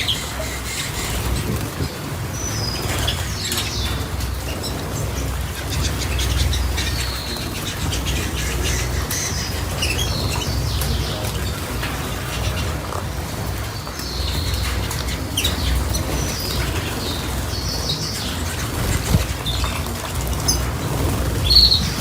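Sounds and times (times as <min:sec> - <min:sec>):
cage birds chirping: 0:00.0 - 0:22.0
steady low hum: 0:00.0 - 0:22.0.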